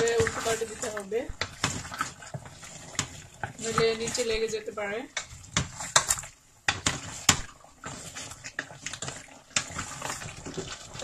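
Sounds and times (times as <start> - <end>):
meat sizzling: 0.0 - 11.0
spatula stirring meat in a pot: 0.0 - 11.0.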